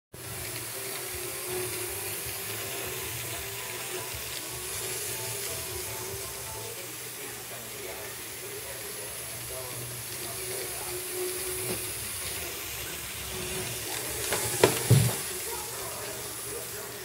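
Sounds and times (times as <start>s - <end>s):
model train whirring: 0.2s - 17.0s.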